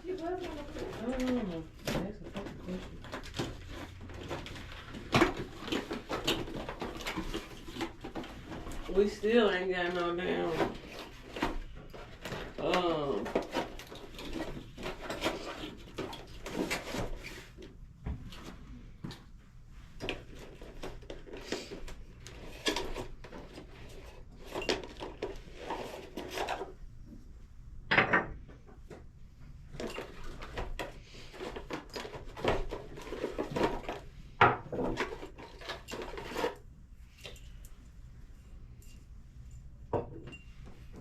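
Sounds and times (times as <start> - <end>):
household objects clattering: 0.0 - 19.2, 20.0 - 26.8, 29.7 - 37.5.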